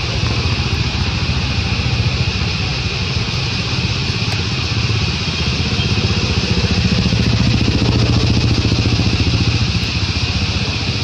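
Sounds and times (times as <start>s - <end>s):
high hiss: 0.0s - 11.0s.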